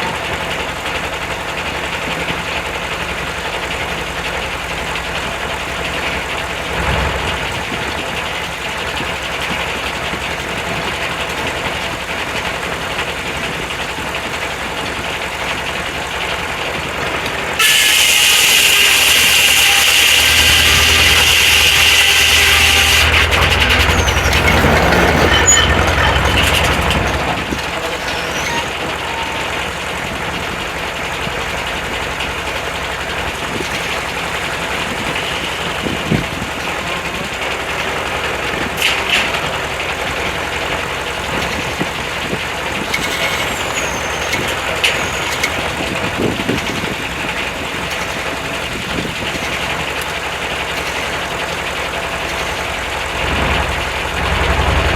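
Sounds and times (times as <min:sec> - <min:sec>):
sawmill engine and blade running: 0:00.0 - 0:54.9
knocks and clanks: 0:05.8 - 0:54.9.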